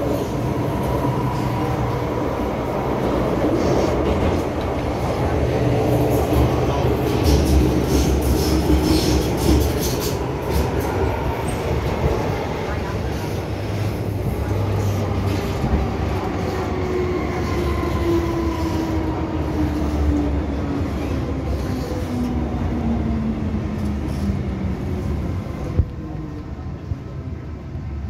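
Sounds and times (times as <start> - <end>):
train running gear rumble: 0.0 - 27.8.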